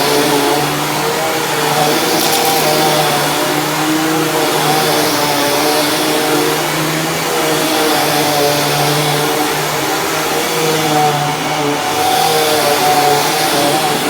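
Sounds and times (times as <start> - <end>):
vacuum cleaner running on carpet: 0.0 - 14.0.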